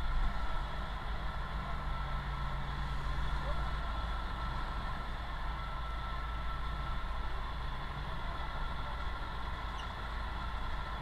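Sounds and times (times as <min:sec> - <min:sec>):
fire truck engine rumbling: 0:00.0 - 0:11.0.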